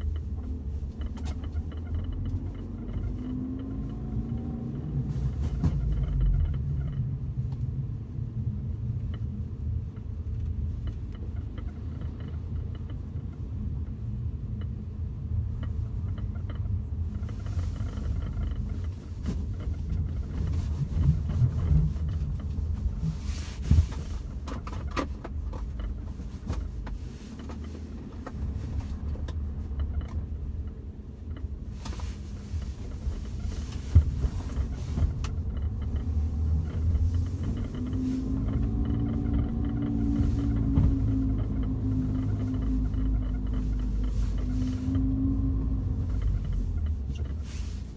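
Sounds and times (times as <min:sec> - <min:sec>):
car road and engine rumble: 0:00.0 - 0:47.9
interior rattle clicks: 0:00.0 - 0:47.9.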